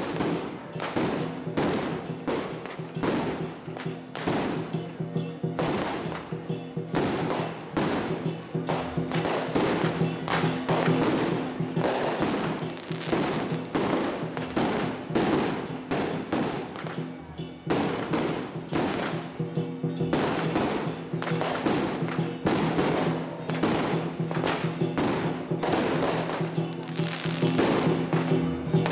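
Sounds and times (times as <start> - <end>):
firecrackers going off: 0.0 - 28.9
music: 0.0 - 28.9.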